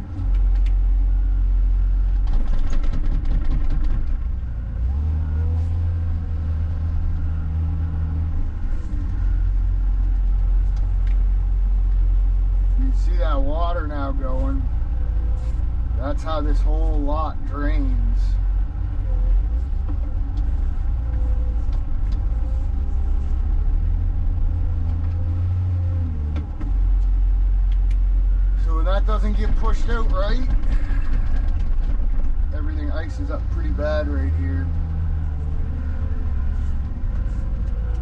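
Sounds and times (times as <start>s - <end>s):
vehicle engine humming: 0.0s - 38.0s.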